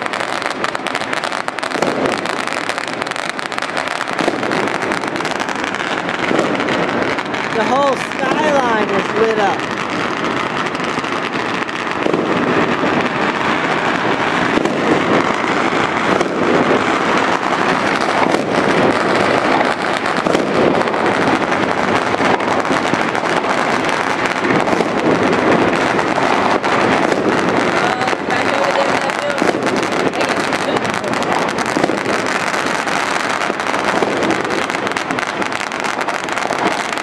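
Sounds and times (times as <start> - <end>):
fireworks crackling and popping: 0.0 - 37.0
sharp firework bangs: 0.0 - 37.0.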